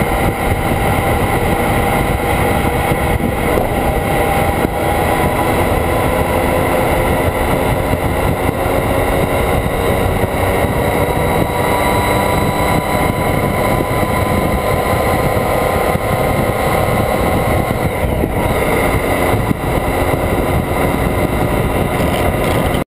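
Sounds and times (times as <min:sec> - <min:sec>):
motorcycle engine cruising: 0:00.0 - 0:22.9
wind and road noise: 0:00.0 - 0:22.9.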